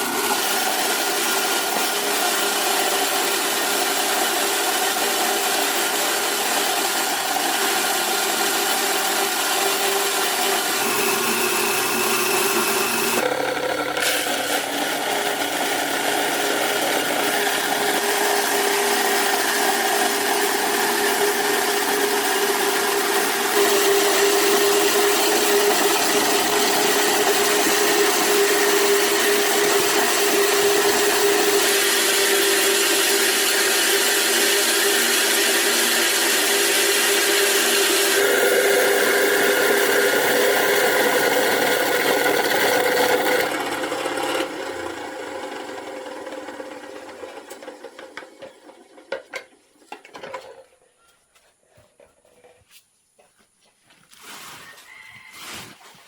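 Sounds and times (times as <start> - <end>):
rasping mechanical noise: 0.0 - 50.3.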